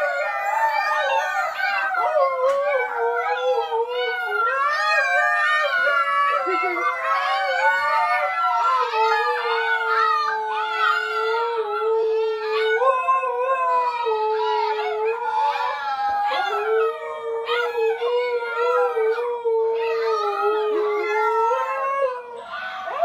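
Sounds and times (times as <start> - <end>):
dog howling: 0.0 - 23.0
puppies howling: 0.0 - 23.0.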